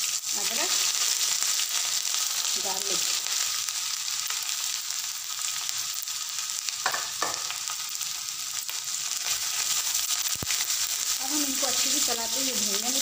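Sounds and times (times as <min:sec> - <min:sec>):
ghee sizzling in a pan: 0:00.0 - 0:13.0.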